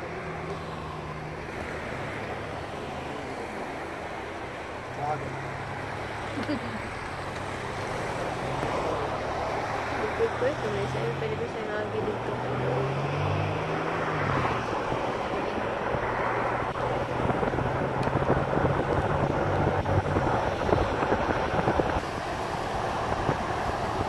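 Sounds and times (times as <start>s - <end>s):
road noise: 0.0s - 24.0s
vehicle engine hum: 0.0s - 24.0s.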